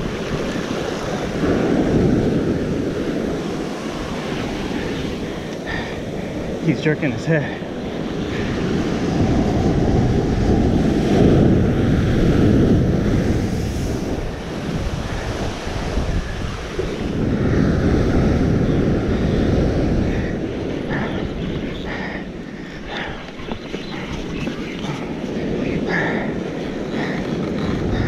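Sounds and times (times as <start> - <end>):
waves washing up beach: 0.0 - 28.0
wind buffeting microphone: 0.0 - 28.0.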